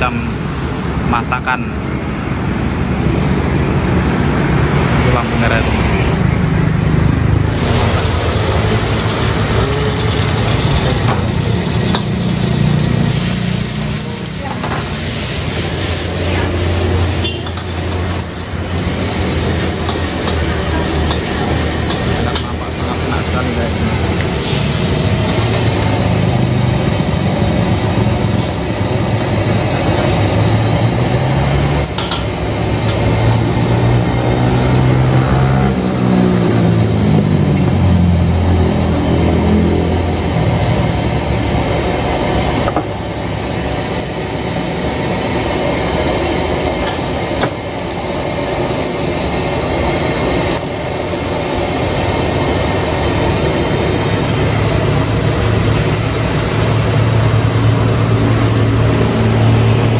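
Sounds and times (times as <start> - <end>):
motorbike engines passing: 2.0 - 59.9
vegetables sizzling in a wok: 7.4 - 59.9.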